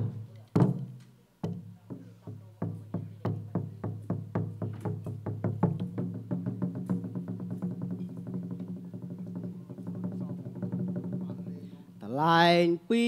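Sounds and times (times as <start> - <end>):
drum strokes quickening: 0.0 - 1.0, 1.9 - 12.1.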